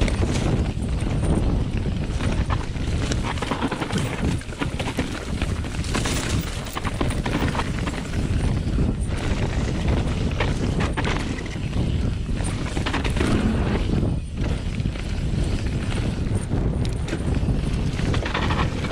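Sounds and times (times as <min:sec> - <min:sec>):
bike rattling: 0:00.0 - 0:18.9
wind buffeting microphone: 0:00.0 - 0:18.9.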